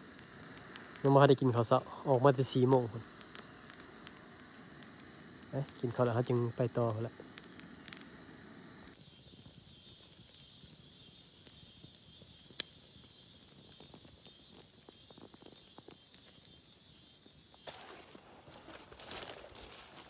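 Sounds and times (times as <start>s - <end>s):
insects chirring: 0.0s - 20.0s
wood fire crackling: 0.0s - 20.0s.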